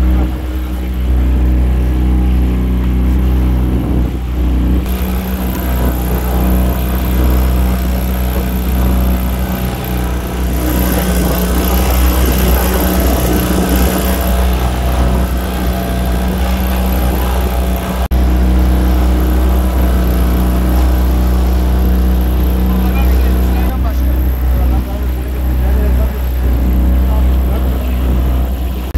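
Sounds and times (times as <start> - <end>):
boat engine running: 0.0 - 28.9
choppy water rushing: 0.0 - 28.9.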